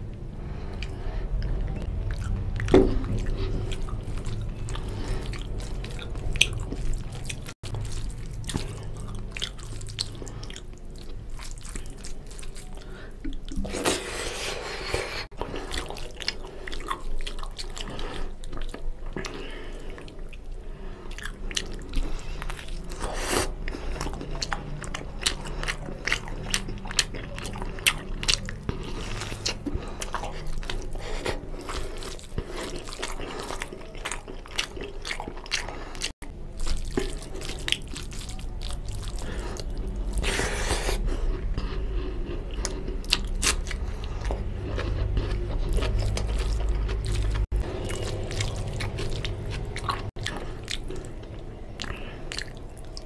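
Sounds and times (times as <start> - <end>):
wet chewing and mouth smacks: 0.1 - 53.0.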